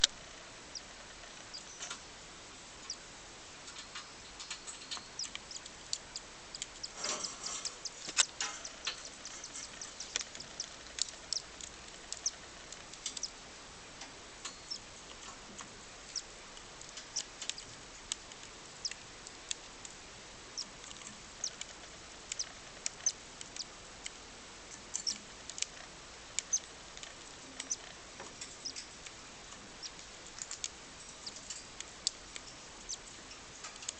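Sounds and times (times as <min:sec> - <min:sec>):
chick peeping: 0:00.7 - 0:02.0, 0:03.6 - 0:13.4, 0:14.4 - 0:23.8, 0:24.7 - 0:25.8, 0:26.4 - 0:33.1.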